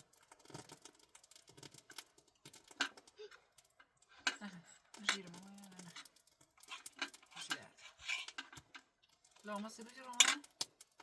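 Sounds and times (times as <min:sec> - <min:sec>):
objects clicking and tapping: 0:00.0 - 0:11.0.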